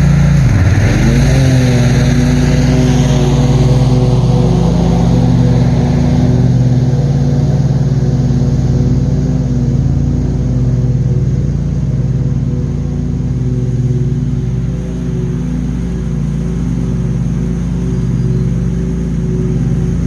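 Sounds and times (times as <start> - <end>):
mower engine running: 0.0 - 20.0.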